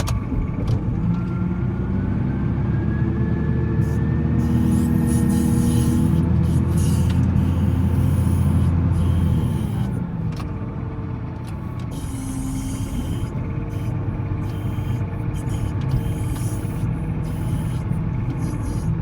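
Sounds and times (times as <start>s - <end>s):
wheel loader diesel engine: 0.0s - 19.0s.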